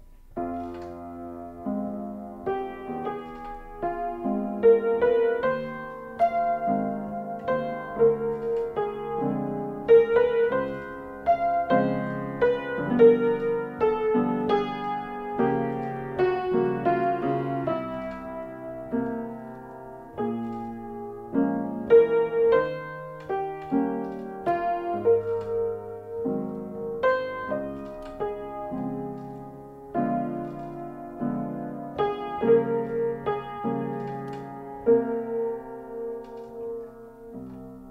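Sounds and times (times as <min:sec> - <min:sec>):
solo piano music: 0:00.0 - 0:37.9.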